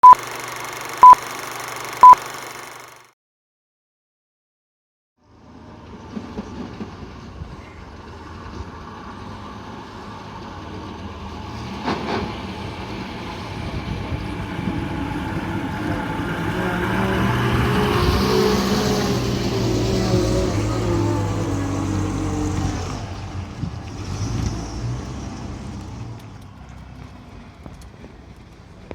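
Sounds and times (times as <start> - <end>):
bus diesel engine running: 0.0 - 3.0, 5.6 - 28.8.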